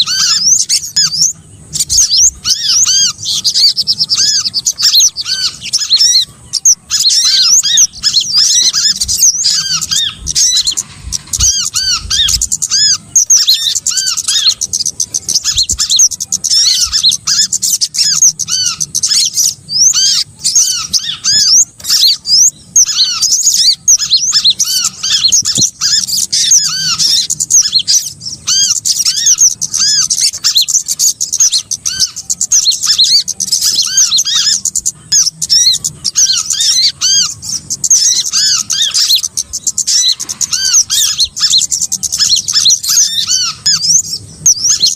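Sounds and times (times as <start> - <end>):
high songbird chirps: 0.0 - 44.9.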